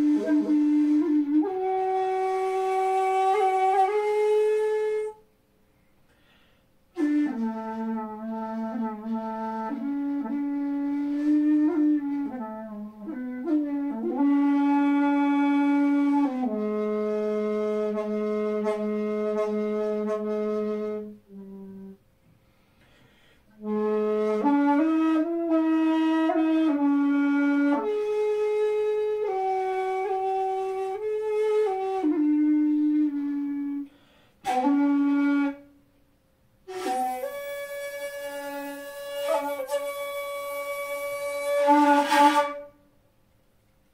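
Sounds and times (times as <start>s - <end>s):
shakuhachi flute solo: 0.0s - 5.3s, 6.9s - 22.0s, 23.6s - 35.8s, 36.6s - 42.9s.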